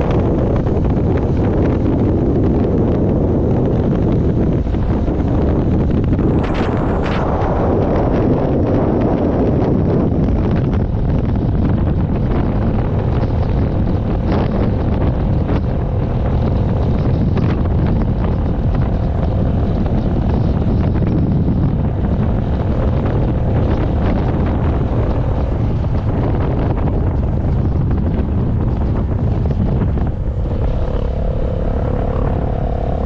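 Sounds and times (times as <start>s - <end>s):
road and engine rumble: 0.0s - 33.0s
wind buffeting microphone: 0.0s - 33.0s.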